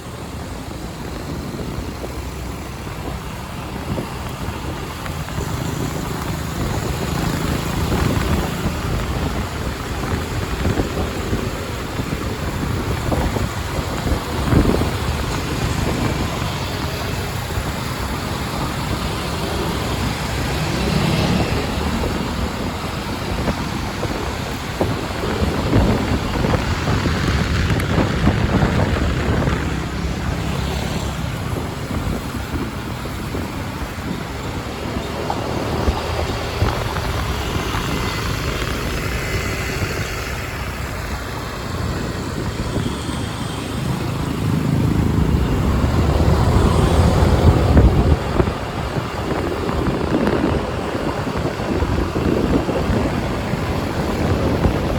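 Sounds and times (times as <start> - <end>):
road traffic: 0.0 - 54.9
wind buffeting microphone: 0.0 - 54.9
motorbike engine: 2.6 - 54.9.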